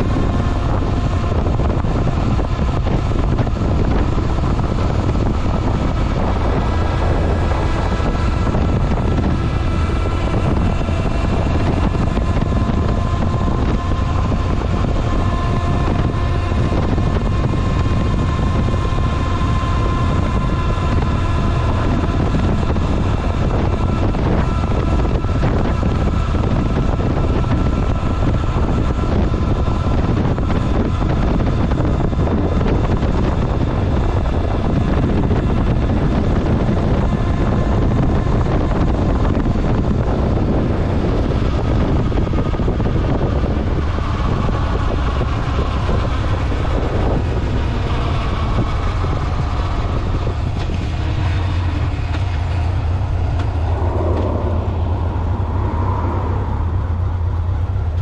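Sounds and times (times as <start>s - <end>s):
motorcycle engine cruising: 0.0s - 58.0s
wind rush on microphone: 0.0s - 58.0s.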